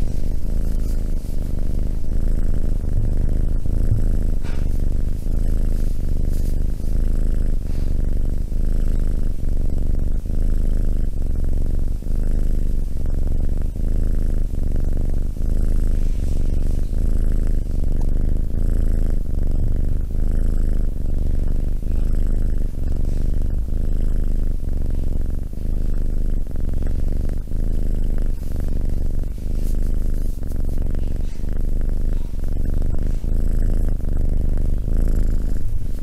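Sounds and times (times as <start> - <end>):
kitten purring: 0.0 - 36.0.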